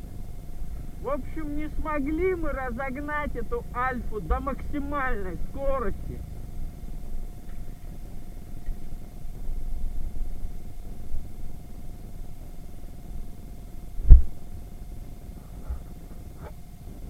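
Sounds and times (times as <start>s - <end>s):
faint engine hum: 0.0s - 17.0s
wind buffeting microphone: 0.0s - 17.0s.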